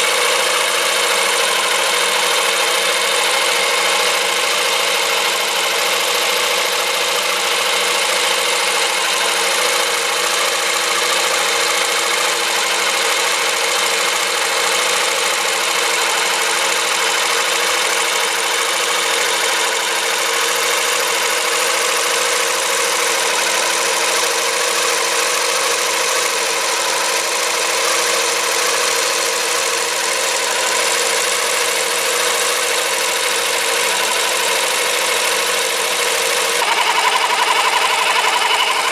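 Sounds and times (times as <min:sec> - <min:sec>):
small electric motor whirring: 0:00.0 - 0:38.9.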